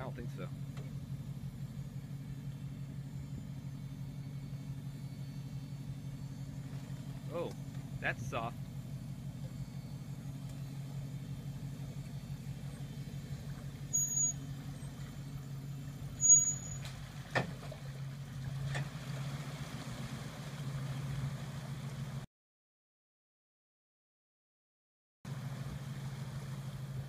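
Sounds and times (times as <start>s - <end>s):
truck engine running: 0.0s - 22.2s, 25.3s - 27.0s.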